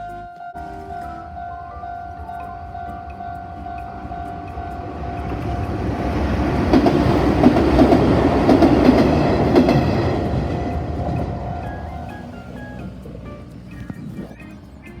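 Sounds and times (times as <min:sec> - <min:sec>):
electric train passing: 0:00.0 - 0:15.0
wheels clacking over rail joints: 0:00.6 - 0:15.0.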